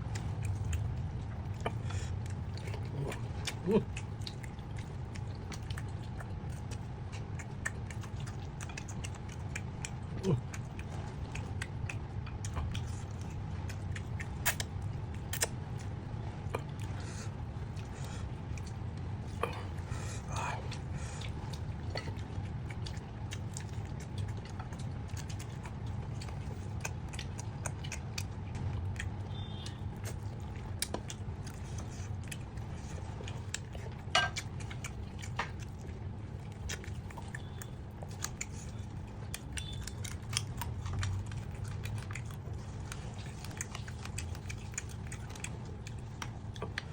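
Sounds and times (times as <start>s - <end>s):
chewing and biting: 0.0s - 46.9s
steady low hum: 0.0s - 46.9s.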